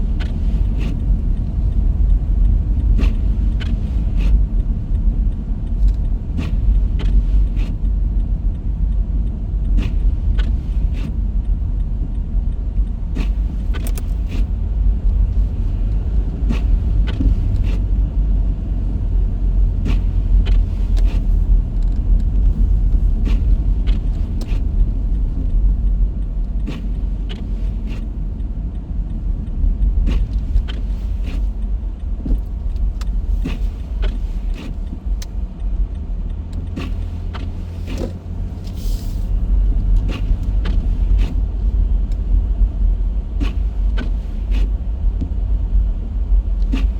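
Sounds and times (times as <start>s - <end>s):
car cabin rumble: 0.0s - 46.9s.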